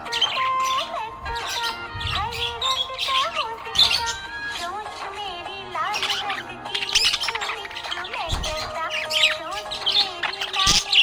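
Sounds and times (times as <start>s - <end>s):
budgerigar chirping and warbling: 0.0s - 11.0s.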